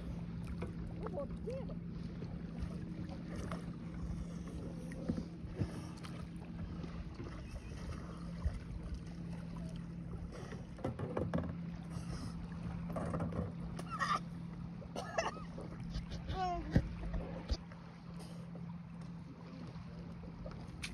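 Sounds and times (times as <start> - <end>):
small waves lapping against hull: 0.0 - 20.9
steady low hum: 0.0 - 20.9.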